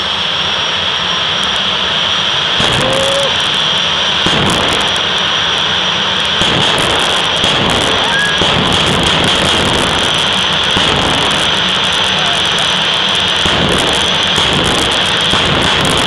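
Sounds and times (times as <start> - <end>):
jet engine roar with whine: 0.0 - 16.0.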